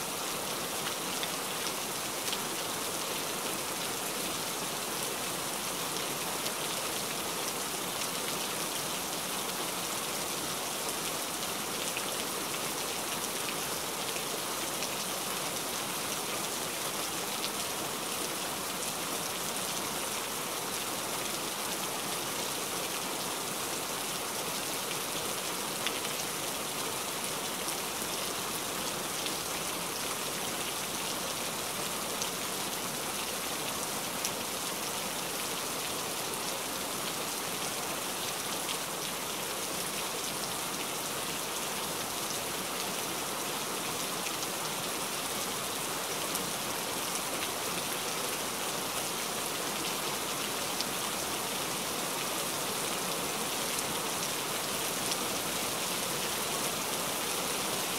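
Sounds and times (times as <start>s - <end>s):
rain falling: 0.0s - 57.9s.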